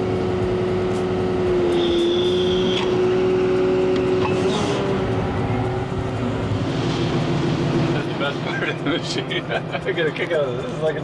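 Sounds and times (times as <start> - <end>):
diesel engine and hydraulics whining: 0.0 - 11.0.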